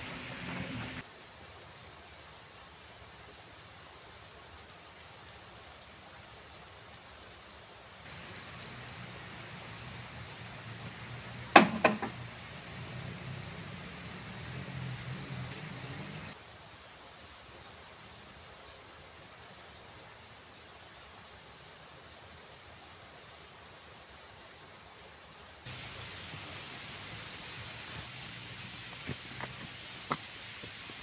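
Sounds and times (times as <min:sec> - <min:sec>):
insects chirring: 0:00.0 - 0:02.6, 0:04.3 - 0:20.2, 0:23.1 - 0:31.0.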